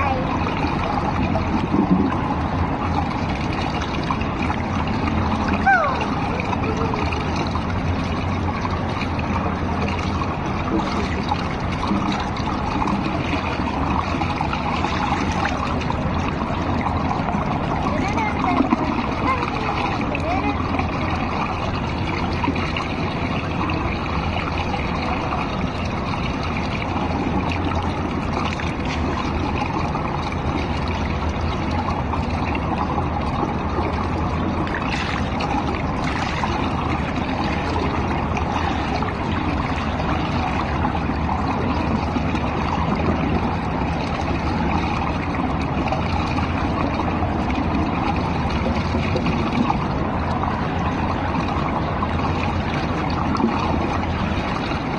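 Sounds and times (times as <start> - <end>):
pool water lapping: 0.0 - 54.9
water splashing: 0.0 - 54.9.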